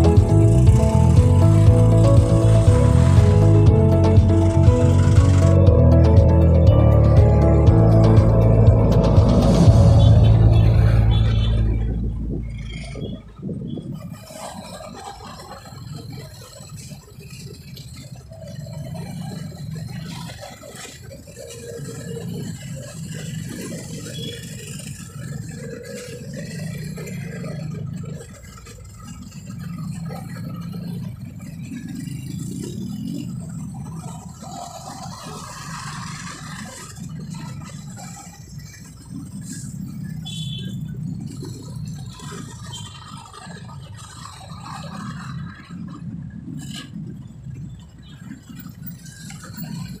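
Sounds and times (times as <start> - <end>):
slow road traffic: 0.0 - 50.0
vehicle engines idling: 0.0 - 50.0.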